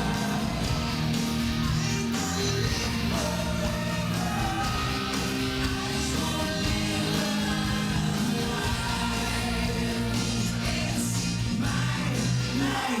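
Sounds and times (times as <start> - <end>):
dance music with choral vocals: 0.0 - 13.0.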